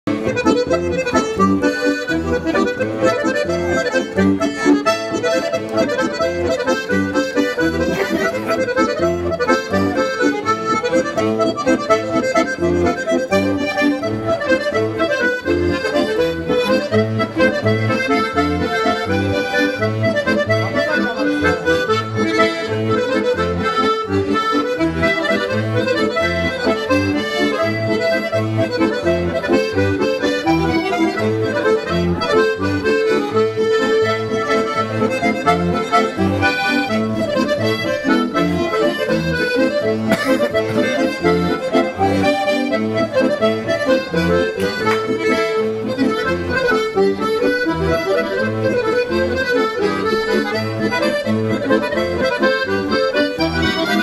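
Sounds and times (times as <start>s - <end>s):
button accordions playing folk dance: 0.0s - 54.0s.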